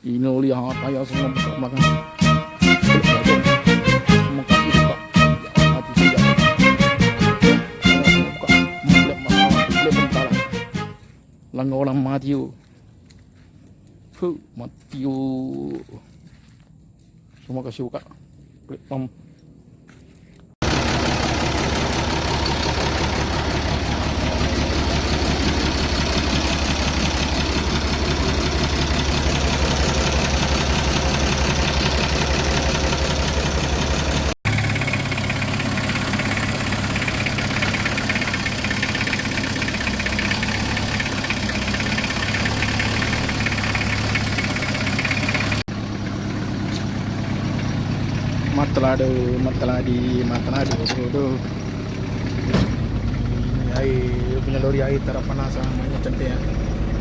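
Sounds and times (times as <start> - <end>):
diesel lorry engine idling: 0.7 - 11.1, 20.6 - 57.0.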